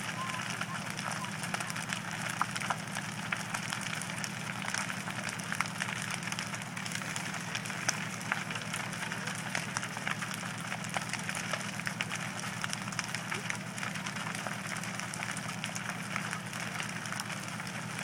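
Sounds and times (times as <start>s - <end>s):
burning timber crackling and popping: 0.0s - 18.0s
house fire burning: 0.0s - 18.0s
steady low hum: 0.0s - 18.0s.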